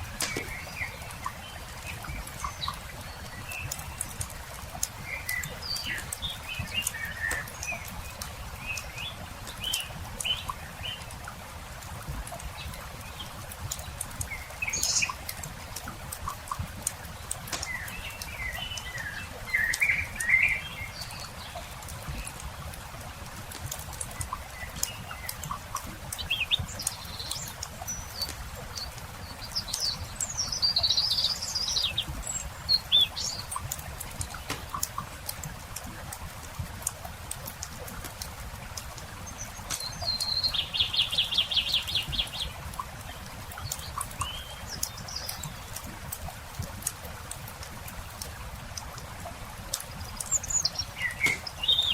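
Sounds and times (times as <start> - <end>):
songbird chirping: 0.0 - 46.2, 49.6 - 51.9
campfire crackling and popping: 0.0 - 51.9.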